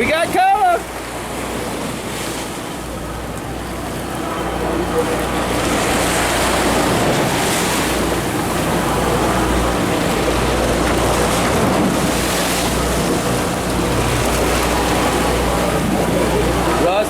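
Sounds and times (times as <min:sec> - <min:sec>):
sea noise: 0:00.0 - 0:17.0
wind: 0:00.0 - 0:17.0
wind buffeting microphone: 0:00.0 - 0:17.0.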